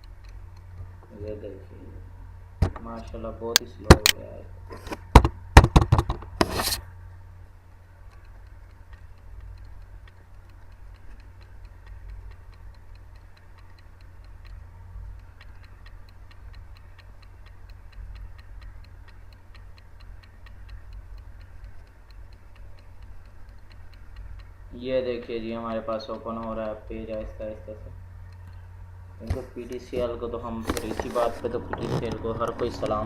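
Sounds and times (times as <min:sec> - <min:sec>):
sharp clicks: 0:00.0 - 0:01.0, 0:03.5 - 0:04.3, 0:07.8 - 0:33.0
faint regular ticking: 0:00.0 - 0:33.0
steady low hum: 0:00.0 - 0:33.0.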